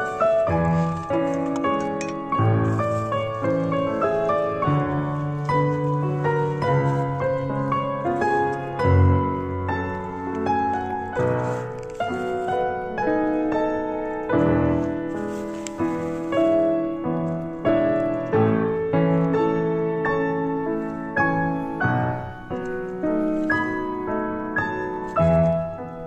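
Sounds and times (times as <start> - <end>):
instrumental music: 0.0 - 26.0.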